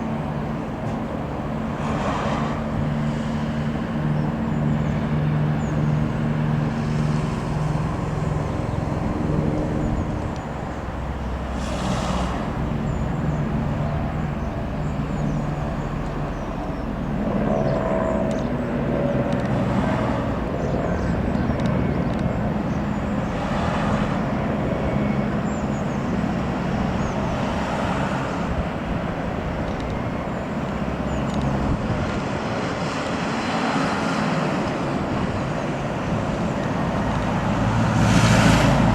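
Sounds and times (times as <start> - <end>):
engine hum: 0.0 - 38.9
vehicle rumble: 0.0 - 38.9.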